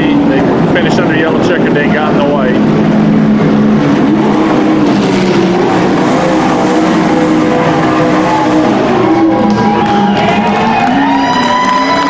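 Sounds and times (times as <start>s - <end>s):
race truck engines passing: 0.0s - 12.0s.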